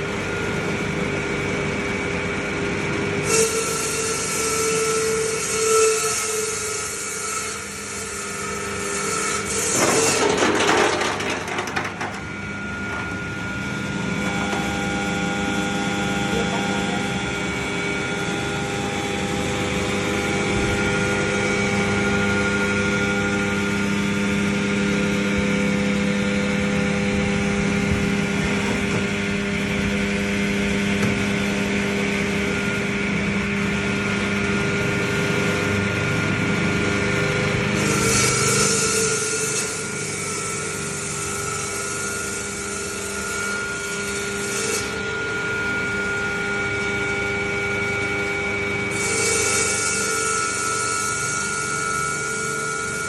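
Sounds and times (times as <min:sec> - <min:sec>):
ice cutting saw machine whining: 0:00.0 - 0:53.0.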